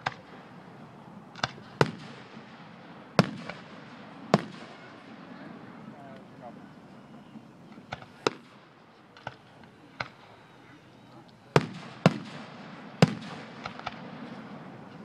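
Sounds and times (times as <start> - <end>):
fireworks bursting overhead: 0.0 - 15.0.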